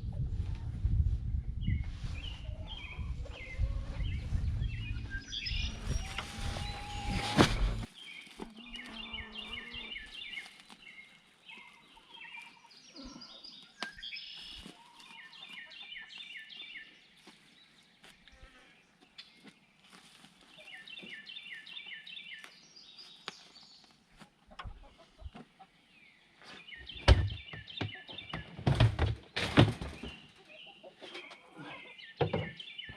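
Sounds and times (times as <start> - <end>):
songbird chirping: 1.6 - 32.9.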